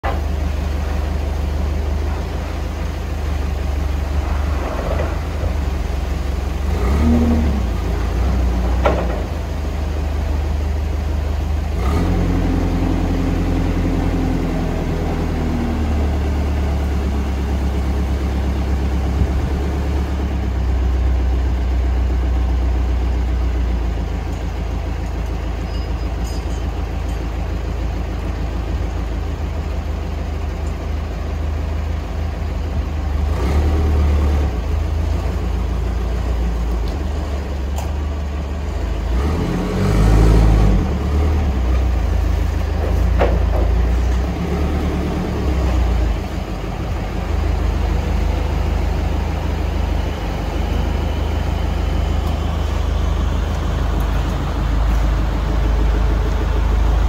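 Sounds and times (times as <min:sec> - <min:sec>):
forklift diesel engine running: 0:00.0 - 0:57.0.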